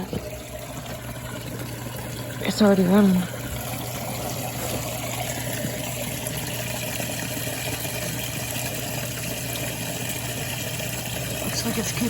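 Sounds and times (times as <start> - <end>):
rushing water: 0.0 - 12.0
sump pump humming: 0.0 - 12.0.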